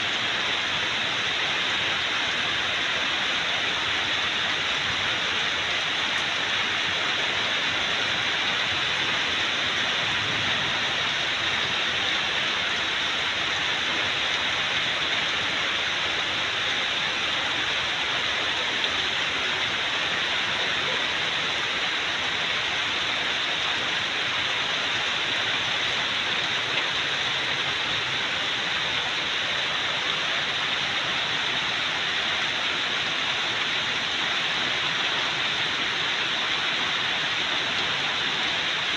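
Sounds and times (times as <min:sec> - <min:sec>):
heavy rain on trees and plants: 0:00.0 - 0:38.9.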